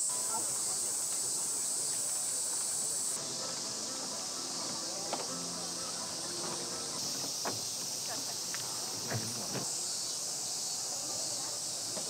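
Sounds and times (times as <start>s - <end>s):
faint voices: 0.0s - 12.0s
insects shrilling: 0.0s - 12.0s.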